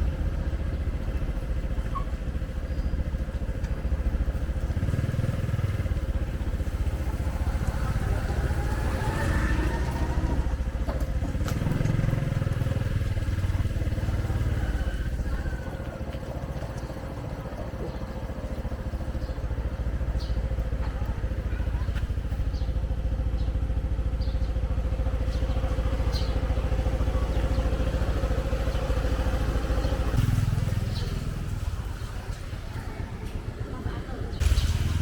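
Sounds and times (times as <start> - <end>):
motorcycle engines rumbling: 0.0 - 35.0.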